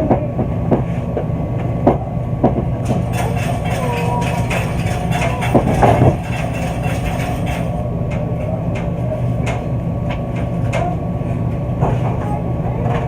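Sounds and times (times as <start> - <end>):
knocks and clatter: 0.0 - 13.0
washers and dryers humming: 0.0 - 13.0.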